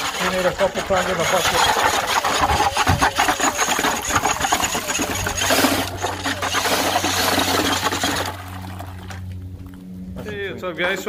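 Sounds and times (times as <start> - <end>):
drill mixer paddle spinning in water: 0.0 - 9.4.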